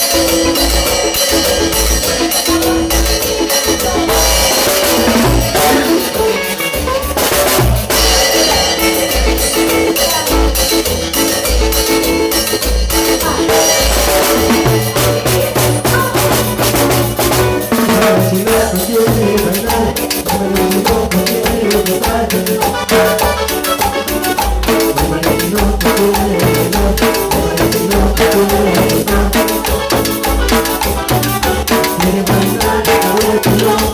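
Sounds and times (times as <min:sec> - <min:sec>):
keyboard chords: 0:00.0 - 0:33.9
live cumbia band music: 0:00.0 - 0:33.9
shaken hand percussion: 0:00.0 - 0:33.9.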